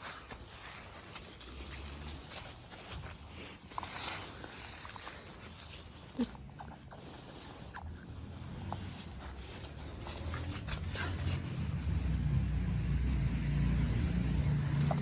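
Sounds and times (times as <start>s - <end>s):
vehicle passing with low rumble: 0.5s - 5.4s, 7.8s - 15.0s.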